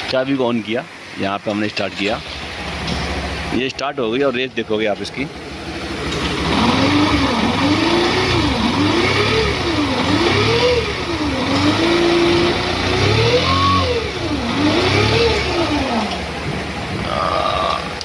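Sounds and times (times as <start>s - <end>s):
motorcycle engine revving and idling: 2.3s - 18.0s.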